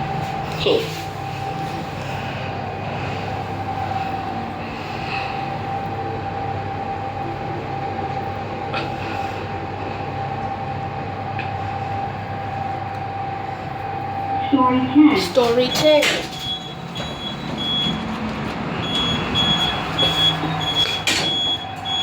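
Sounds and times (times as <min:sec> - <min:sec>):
lift drive whine: 0:00.0 - 0:22.0
rushing cabin ride noise: 0:00.0 - 0:22.0.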